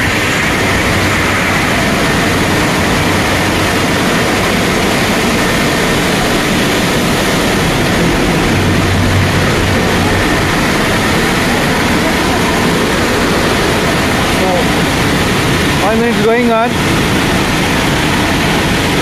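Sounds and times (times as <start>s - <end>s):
car wash machine rushing: 0.0s - 19.0s
low hum: 0.0s - 19.0s.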